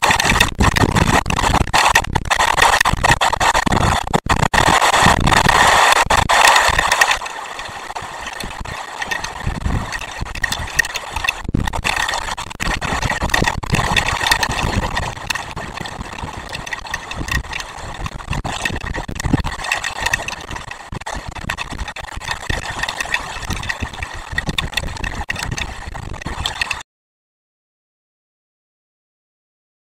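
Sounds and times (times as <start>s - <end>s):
heavy rain on microphone: 0.0s - 26.8s.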